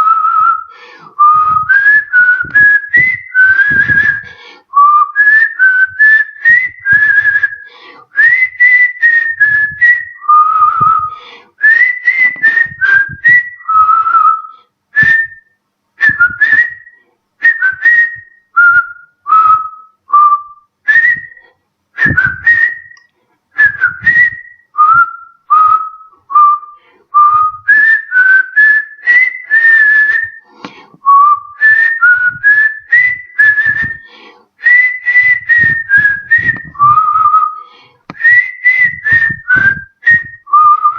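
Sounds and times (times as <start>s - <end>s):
man whistling a melody: 0.0s - 40.9s.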